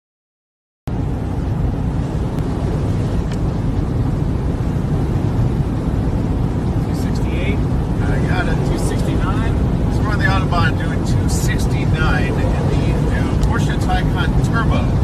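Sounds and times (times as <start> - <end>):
wind and tyre noise in car cabin: 0.9 - 15.0.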